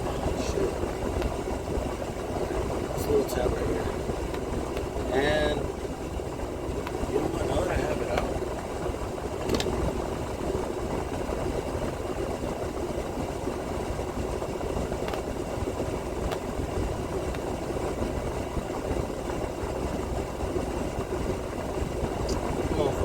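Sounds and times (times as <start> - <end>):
truck diesel engine idling: 0.0 - 23.0.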